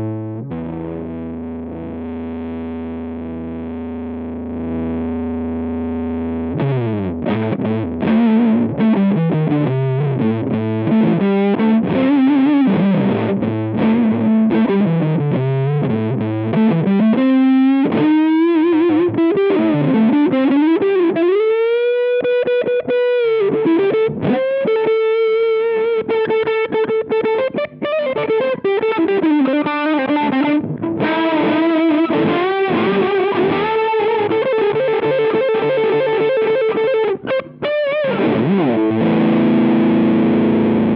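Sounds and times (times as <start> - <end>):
fuzzed electric guitar: 0.0 - 40.9.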